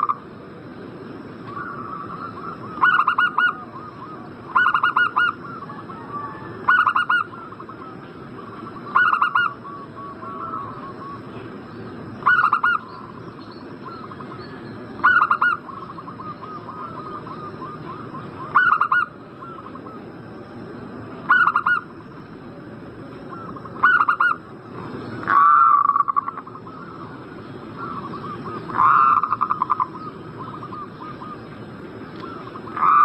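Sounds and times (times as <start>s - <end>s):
dove cooing: 1.5s - 11.4s, 12.2s - 13.2s, 13.8s - 20.1s, 21.2s - 22.0s, 23.2s - 24.4s, 25.2s - 33.0s.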